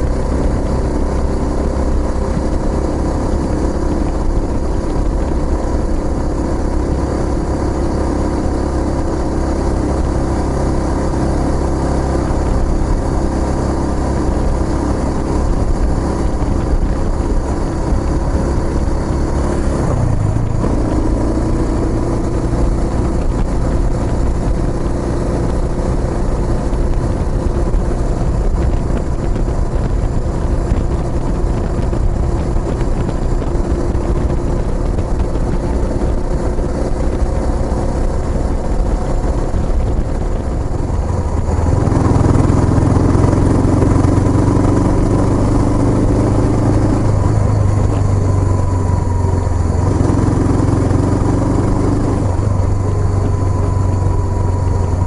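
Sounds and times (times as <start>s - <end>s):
low rumble: 0.0s - 55.0s
motorcycle engine running: 0.0s - 55.0s.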